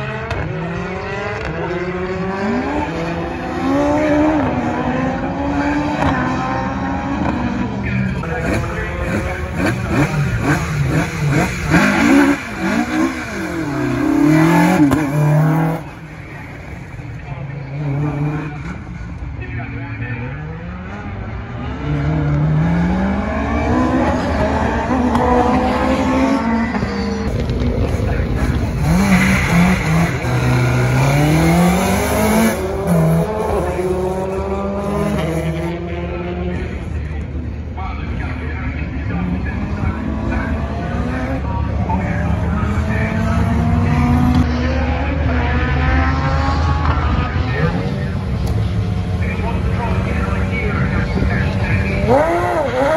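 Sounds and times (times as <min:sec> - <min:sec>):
rally car engine accelerating: 0:00.0 - 0:19.6, 0:20.2 - 0:52.9.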